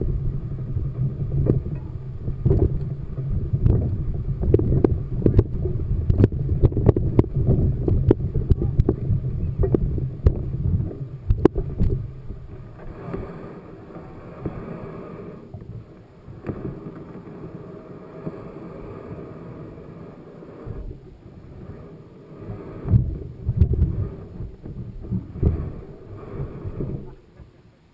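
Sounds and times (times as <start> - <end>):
wind buffeting microphone: 0.0 - 16.9, 20.6 - 27.6.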